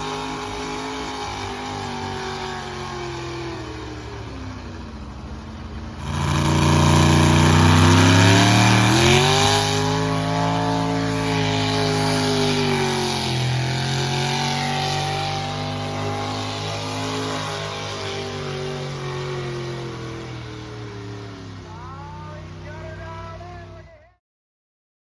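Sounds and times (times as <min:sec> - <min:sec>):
truck engine running hard: 0:00.0 - 0:24.1.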